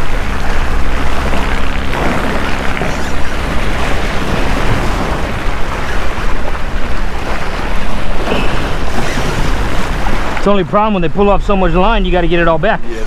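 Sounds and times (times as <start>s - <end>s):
waves splashing on rocks: 0.0s - 11.8s
wind buffeting microphone: 0.0s - 13.0s.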